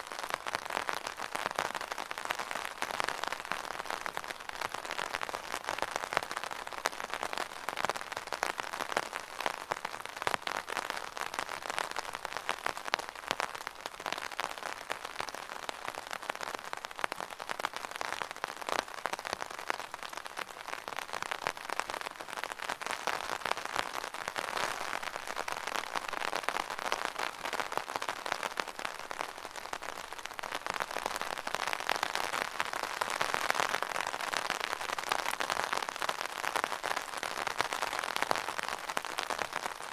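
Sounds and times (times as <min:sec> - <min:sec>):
rain pattering on umbrella: 0:00.0 - 0:39.9.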